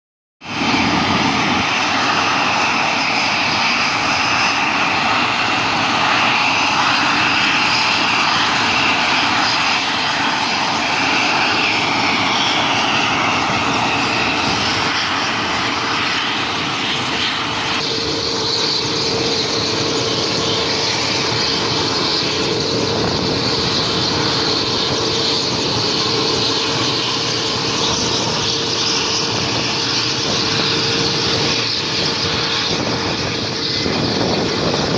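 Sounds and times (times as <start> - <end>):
helicopter turbine whine: 0.4 - 34.9
rotor and exhaust noise: 0.5 - 34.9.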